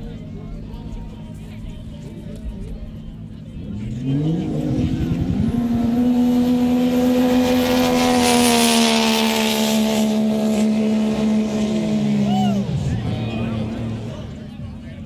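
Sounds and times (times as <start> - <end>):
jet ski engines at full throttle: 0.0 - 15.0.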